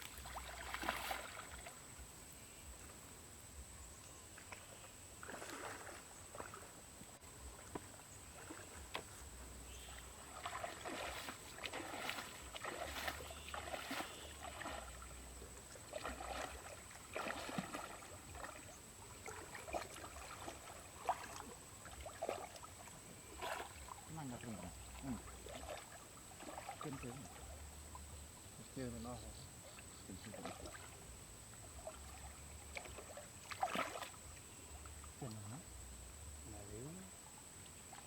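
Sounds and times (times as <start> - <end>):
shallow water splashing: 0.0 - 2.0, 4.5 - 6.8, 7.5 - 36.0.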